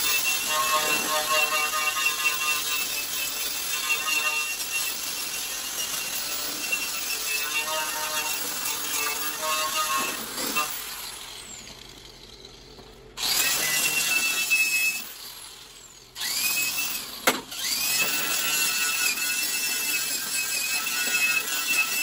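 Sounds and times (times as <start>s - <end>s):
angle grinder whining: 0.0s - 22.0s.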